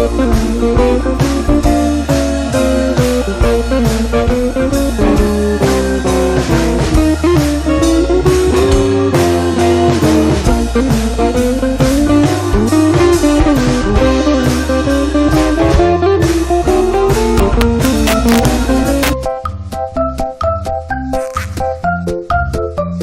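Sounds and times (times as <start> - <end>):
blues-rock music: 0.0 - 23.0.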